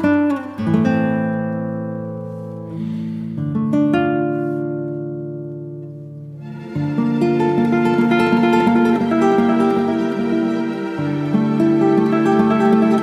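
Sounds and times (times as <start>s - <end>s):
acoustic guitar chords ringing: 0.0s - 13.0s.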